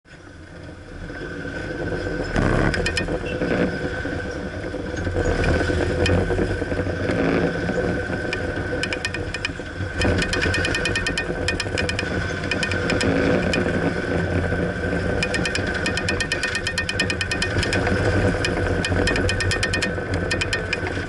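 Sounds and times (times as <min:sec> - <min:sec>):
car engine and road noise: 0:00.1 - 0:21.0.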